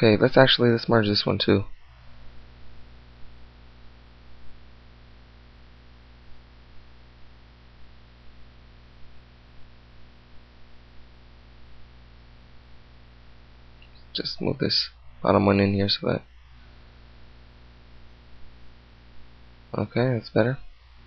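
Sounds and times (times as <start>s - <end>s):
electrical mains hum: 0.0s - 21.0s
microphone hiss: 0.0s - 21.0s.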